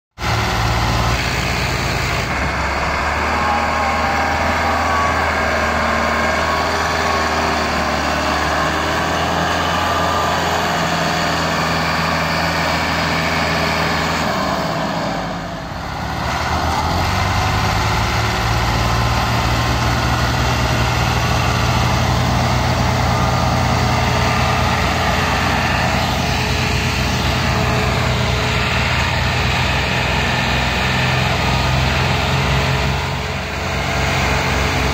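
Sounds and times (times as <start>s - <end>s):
tractor diesel engines running: 0.2s - 34.9s.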